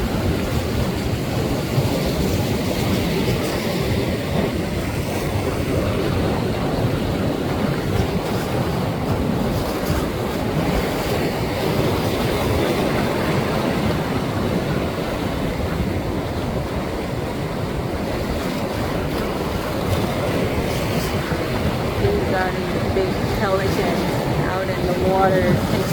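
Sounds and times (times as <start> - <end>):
ocean surf washing: 0.0 - 25.9
wind buffeting microphone: 0.0 - 25.9.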